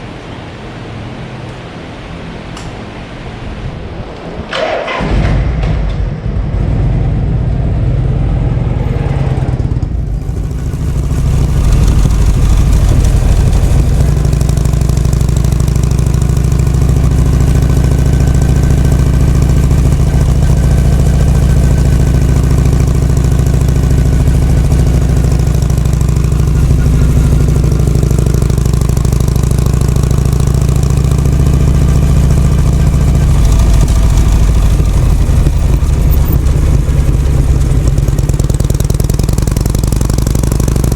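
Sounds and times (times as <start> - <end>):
motorcycle engine running steadily: 5.0 - 40.9.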